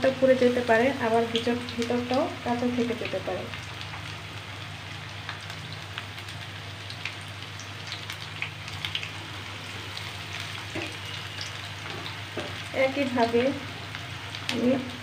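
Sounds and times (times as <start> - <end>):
chicken deep-frying in oil: 0.0 - 15.0.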